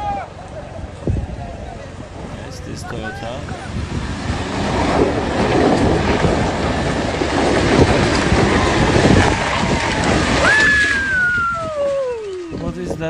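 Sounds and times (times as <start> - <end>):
truck engine rumbling under load: 0.0 - 12.8
tyres churning through water and gravel: 0.0 - 13.0.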